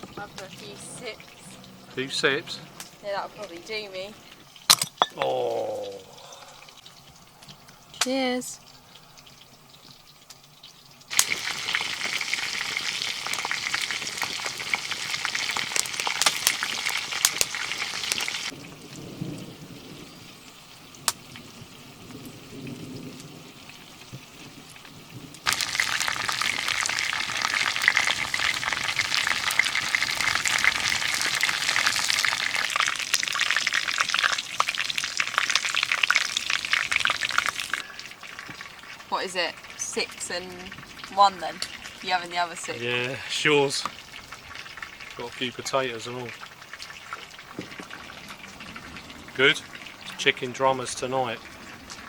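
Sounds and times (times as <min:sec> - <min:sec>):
chicken sizzling in frying: 0:06.8 - 0:52.0.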